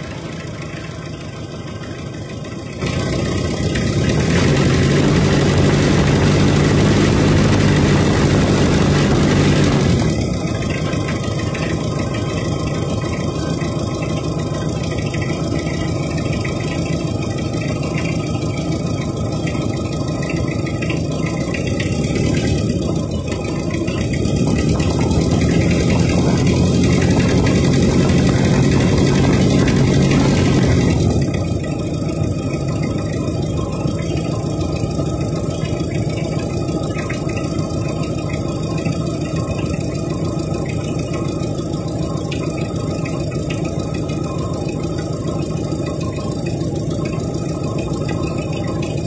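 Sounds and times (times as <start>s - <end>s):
diesel engine idling clatter: 0.0s - 49.0s.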